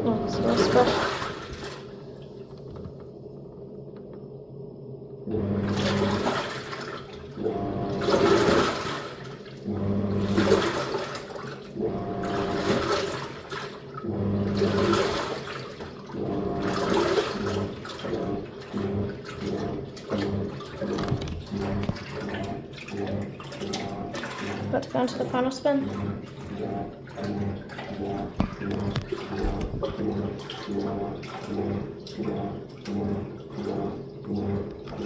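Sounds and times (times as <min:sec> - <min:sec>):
washing machine agitating: 0:00.0 - 0:35.0.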